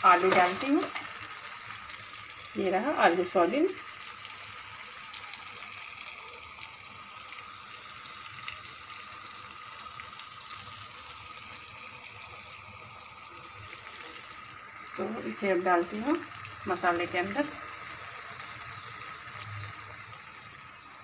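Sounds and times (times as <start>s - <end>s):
paste sizzling in oil: 0.0s - 21.0s.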